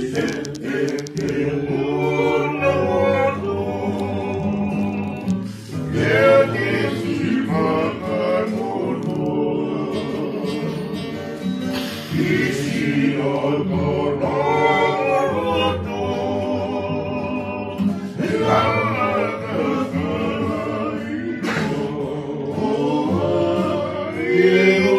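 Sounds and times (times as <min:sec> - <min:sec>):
acoustic guitar: 0:00.0 - 0:24.9
men singing together: 0:00.0 - 0:24.9.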